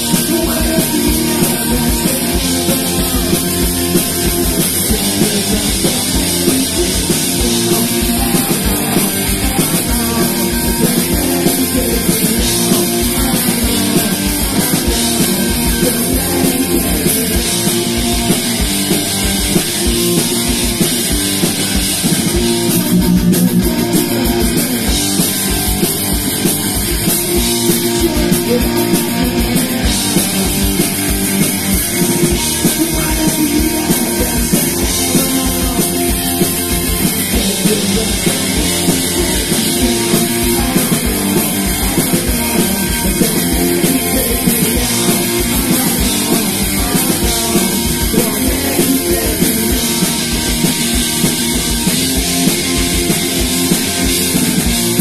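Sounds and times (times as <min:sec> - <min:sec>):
bass guitar: 0:00.0 - 0:55.0
drum kit beat: 0:00.0 - 0:55.0
electric guitar: 0:00.0 - 0:55.0.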